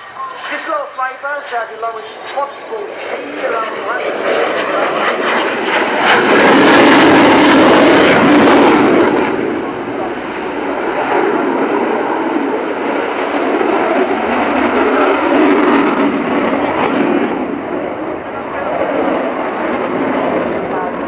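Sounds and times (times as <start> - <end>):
crackling jet roar: 0.0 - 21.0.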